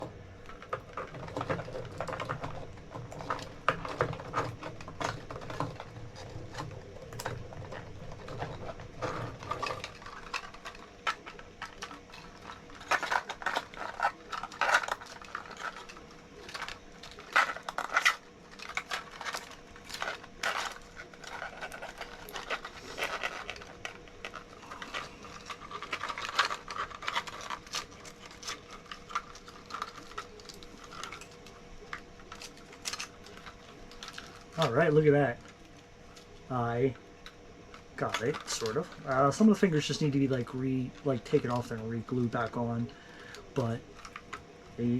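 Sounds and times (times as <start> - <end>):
plastic parts clicking and knocking: 0.0 - 44.9.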